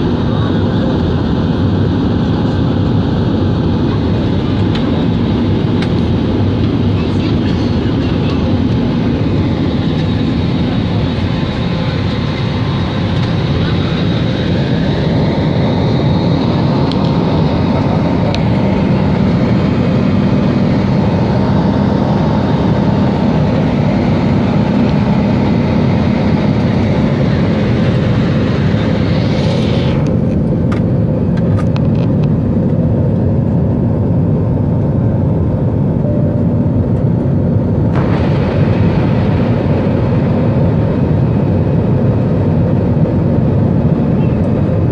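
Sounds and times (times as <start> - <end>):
aircraft engines roaring: 0.0 - 44.9
low cabin hum: 0.0 - 44.9.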